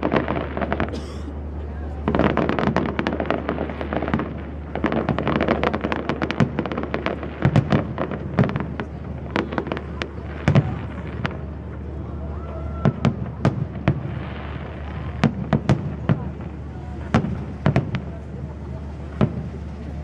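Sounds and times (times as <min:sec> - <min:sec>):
loud fireworks bangs: 0:00.0 - 0:01.1, 0:01.9 - 0:20.0
fireworks crackling and popping: 0:00.0 - 0:20.0.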